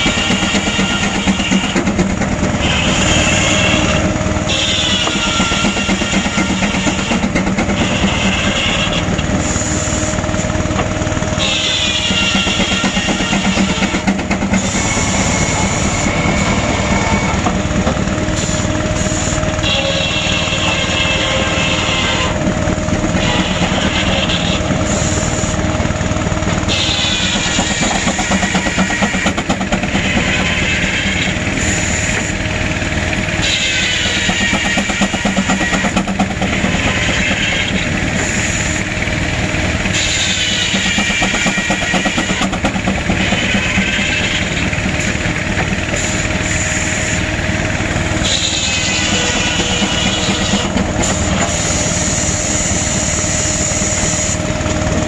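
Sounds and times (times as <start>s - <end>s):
circular saw whining through wood: 0.0s - 55.0s
steam traction engine working: 0.0s - 55.0s.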